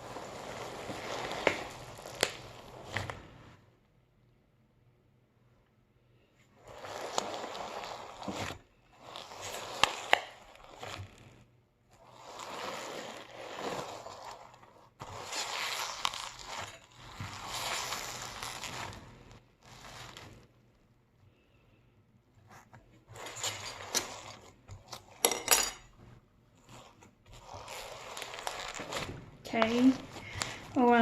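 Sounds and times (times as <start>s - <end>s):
slime squishing by hand: 0.0s - 3.6s, 6.4s - 31.0s.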